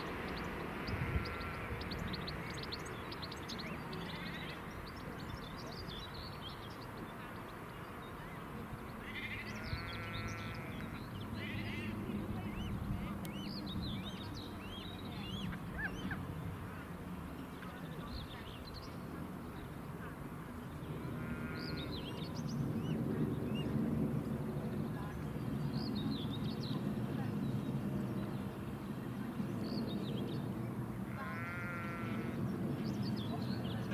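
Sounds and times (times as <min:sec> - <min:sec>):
low background noise: 0:00.0 - 0:33.9.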